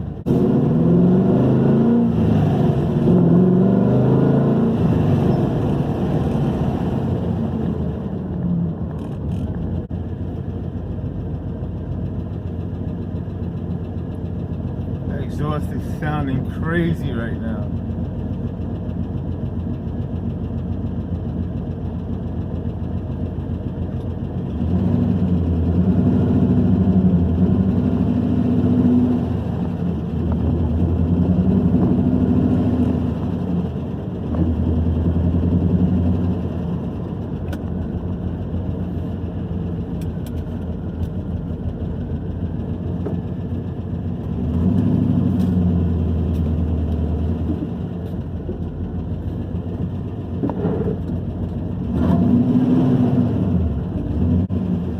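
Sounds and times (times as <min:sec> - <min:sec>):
car engine accelerating: 0:00.0 - 0:10.4, 0:11.1 - 0:54.9.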